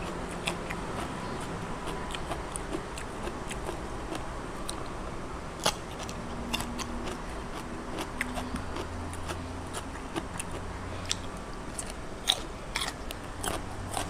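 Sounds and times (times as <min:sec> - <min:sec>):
chewing with crisp clicks: 0:00.0 - 0:05.0, 0:05.6 - 0:14.0.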